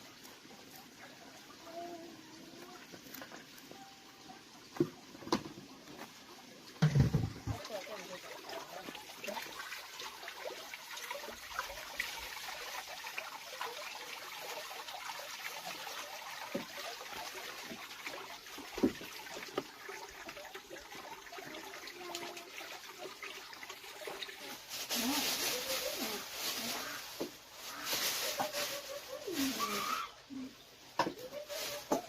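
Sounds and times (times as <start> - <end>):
water trickling and splashing: 0.0 - 32.0.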